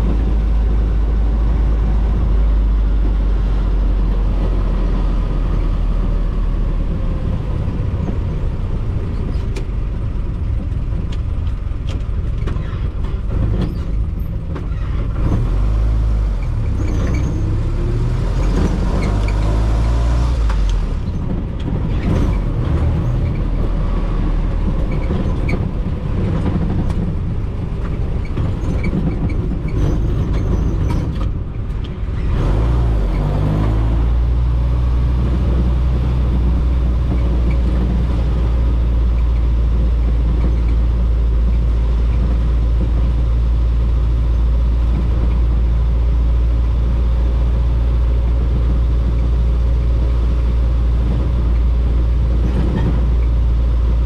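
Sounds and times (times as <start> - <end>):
car engine running: 0.0 - 54.0
drivetrain and road noise: 0.0 - 54.0.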